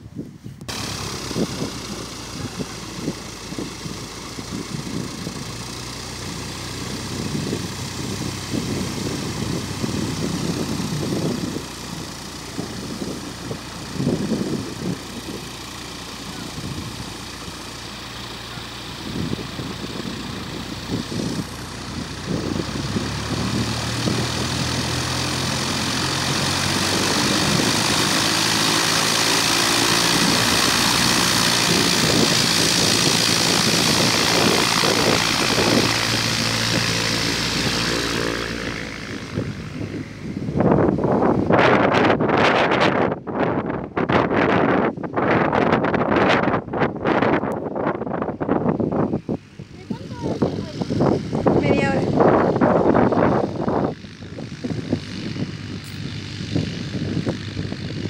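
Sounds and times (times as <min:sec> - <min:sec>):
light aircraft engine running: 0:00.0 - 0:58.0
wind on microphone: 0:00.0 - 0:58.0.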